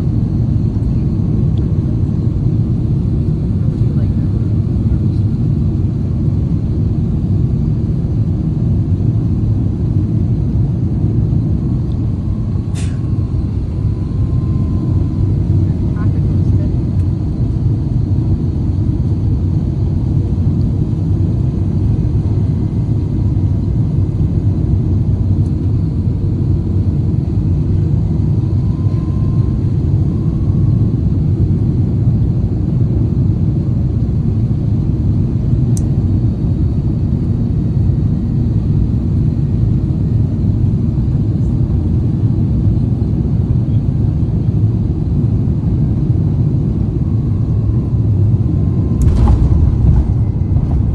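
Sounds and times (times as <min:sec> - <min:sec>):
jet airliner cabin rumble: 0:00.0 - 0:50.9.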